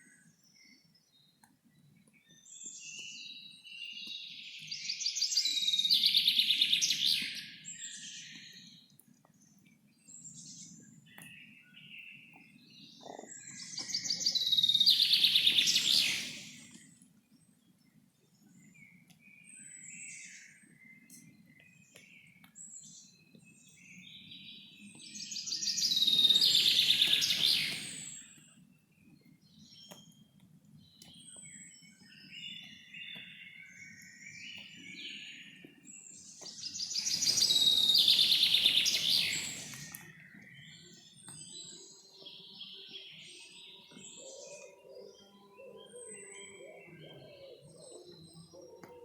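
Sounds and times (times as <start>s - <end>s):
forest birds chirping: 0.0s - 49.0s.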